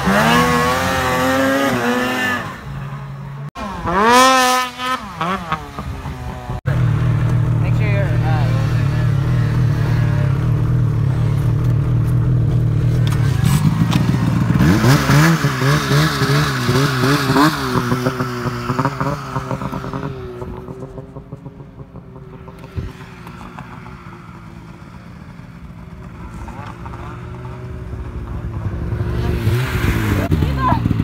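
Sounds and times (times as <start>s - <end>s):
snowmobile engine: 0.0s - 31.0s.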